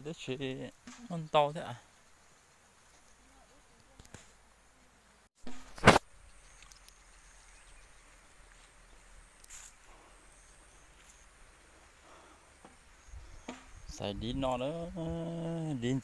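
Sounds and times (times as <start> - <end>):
high insect drone: 0.0 - 5.2, 6.2 - 16.0.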